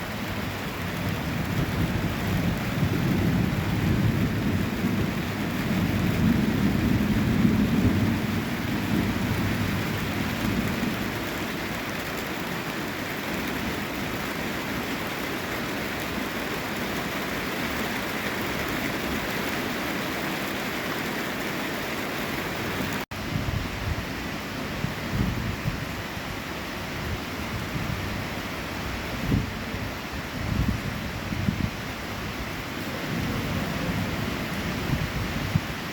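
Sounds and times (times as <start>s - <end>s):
thunder rumble: 0.0s - 24.0s, 30.4s - 35.9s
heavy rain falling: 0.0s - 35.9s.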